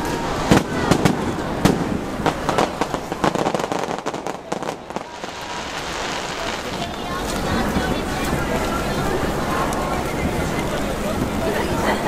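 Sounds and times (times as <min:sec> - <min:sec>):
fireworks bangs: 0:00.0 - 0:11.4
fireworks crackling pops: 0:00.0 - 0:11.4.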